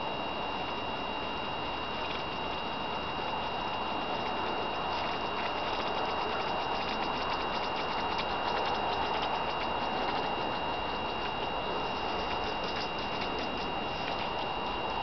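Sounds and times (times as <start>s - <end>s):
faint high steady whine: 0.0s - 15.0s
oil bubbling in a glass bottle: 0.1s - 15.0s.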